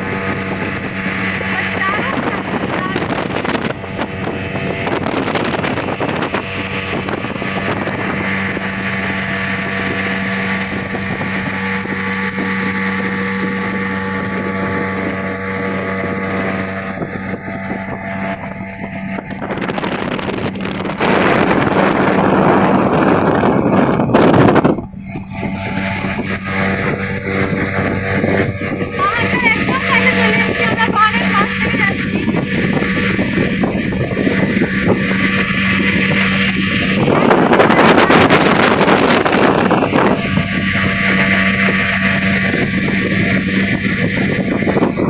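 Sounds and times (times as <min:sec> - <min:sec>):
motorboat engine running: 0:00.0 - 0:45.0
water rushing and splashing: 0:00.0 - 0:45.0.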